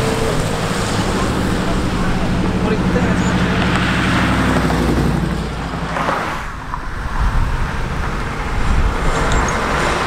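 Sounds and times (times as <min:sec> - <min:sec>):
car engine running: 0:00.0 - 0:08.8
road traffic noise: 0:00.0 - 0:10.0.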